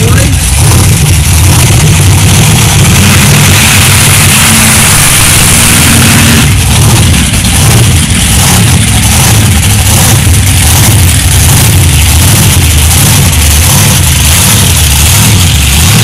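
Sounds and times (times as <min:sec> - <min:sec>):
truck engine running loud: 0:00.0 - 0:16.0.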